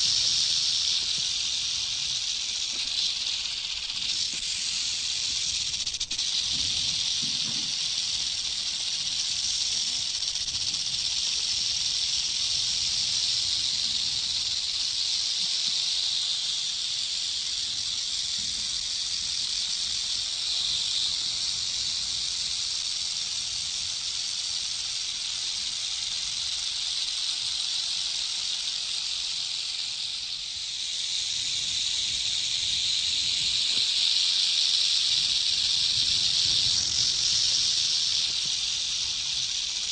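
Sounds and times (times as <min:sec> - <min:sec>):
snake hissing: 0:00.0 - 0:39.9.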